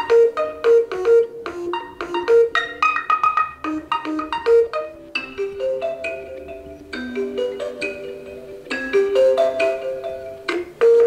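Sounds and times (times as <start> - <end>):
marimba-like ringtone melodies: 0.0 - 11.0.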